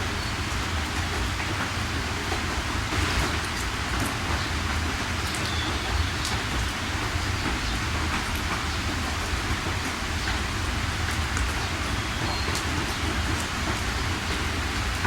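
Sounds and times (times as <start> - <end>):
heavy rain hissing: 0.0 - 15.0
raindrops ticking: 0.1 - 15.0.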